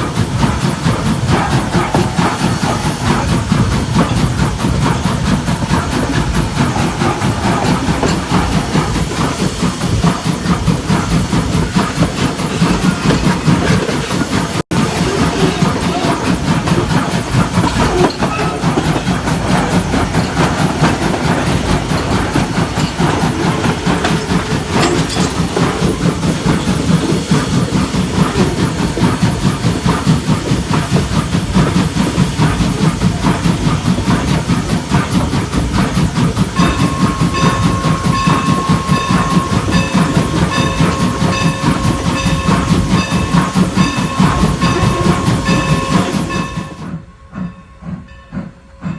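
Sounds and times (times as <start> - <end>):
steam hissing: 0.0 - 48.9
steam locomotive exhaust chuffing: 0.0 - 48.9
train clattering on rails: 0.0 - 48.9.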